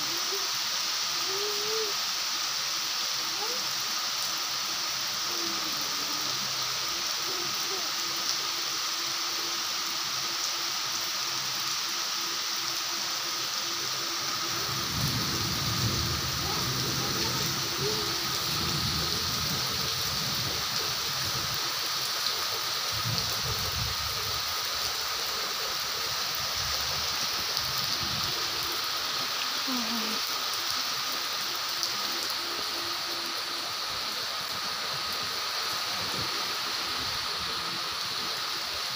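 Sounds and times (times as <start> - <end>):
rain splashing on concrete: 0.0 - 38.9.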